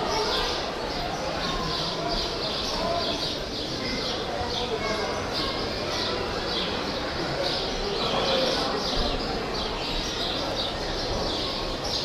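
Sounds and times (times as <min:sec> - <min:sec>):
background hubbub: 0:00.0 - 0:12.0
birds chirping: 0:00.0 - 0:12.0.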